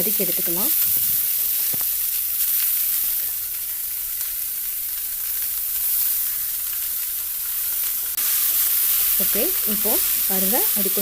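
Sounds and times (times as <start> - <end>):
rice sizzling in hot oil: 0.0 - 11.0.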